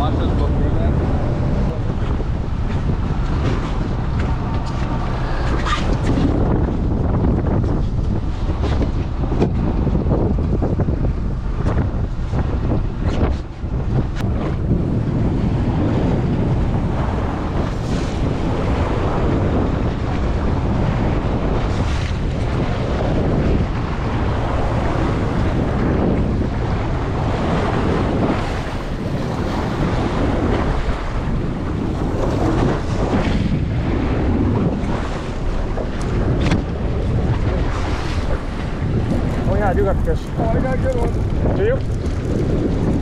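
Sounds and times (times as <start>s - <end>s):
waves washing around boat: 0.0s - 43.0s
wind buffeting microphone: 0.0s - 43.0s.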